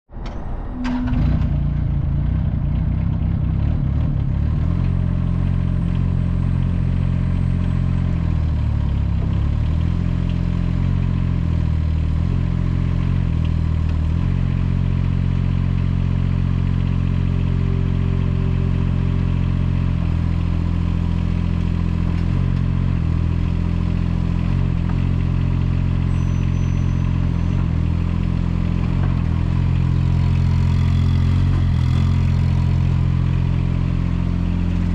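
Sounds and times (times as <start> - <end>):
mini excavator engine running: 0.1 - 34.9.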